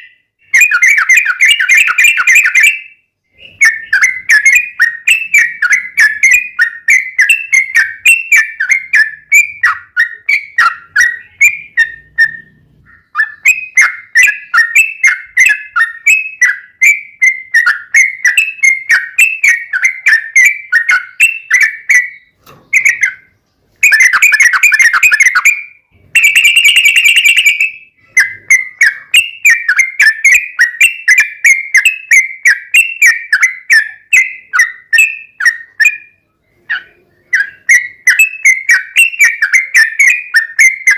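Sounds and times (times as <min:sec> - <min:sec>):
bird chattering whistled song: 0:00.0 - 0:40.9.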